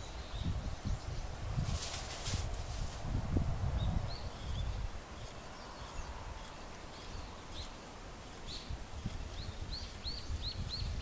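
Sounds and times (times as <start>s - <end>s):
small birds chirping: 0.0s - 3.0s, 3.6s - 11.0s.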